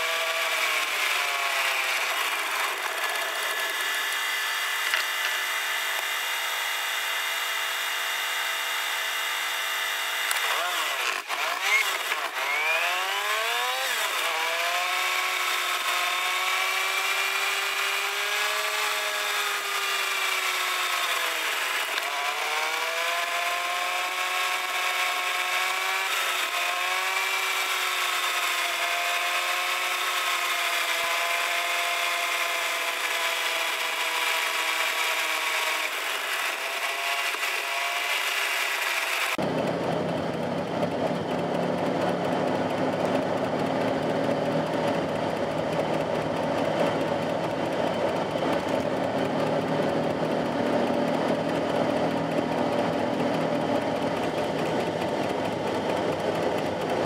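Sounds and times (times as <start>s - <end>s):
high-pitched engine buzz: 0.0s - 57.0s.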